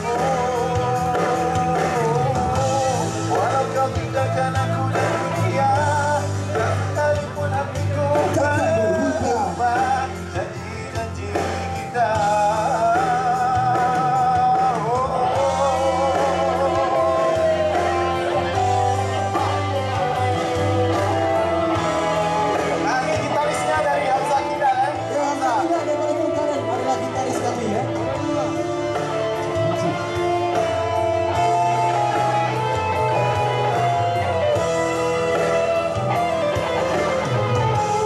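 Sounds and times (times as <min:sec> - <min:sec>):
bass line: 0:00.0 - 0:38.0
electric guitar: 0:00.0 - 0:38.0
vocal melody with vibrato: 0:00.0 - 0:38.0.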